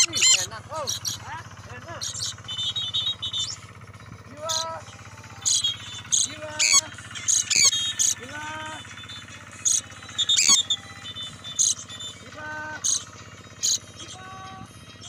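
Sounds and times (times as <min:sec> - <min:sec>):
lower bird calls: 0:00.0 - 0:15.0
sharp high bird chirps: 0:00.0 - 0:15.0.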